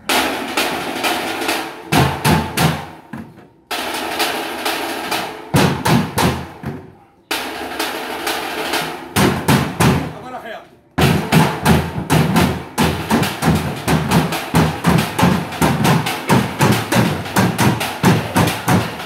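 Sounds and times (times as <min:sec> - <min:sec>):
drumming on plastic water jugs: 0:00.0 - 0:04.1, 0:05.1 - 0:07.9, 0:08.7 - 0:10.2, 0:11.0 - 0:19.0
loud accented drum hits: 0:00.0 - 0:10.2, 0:11.0 - 0:19.0.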